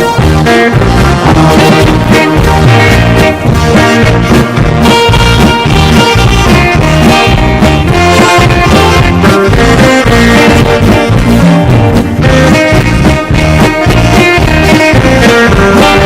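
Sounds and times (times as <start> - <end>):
drum kit beat: 0.0 - 16.0
electronic keyboard: 0.0 - 16.0
guitar: 0.0 - 16.0
saxophone melody: 0.0 - 16.0.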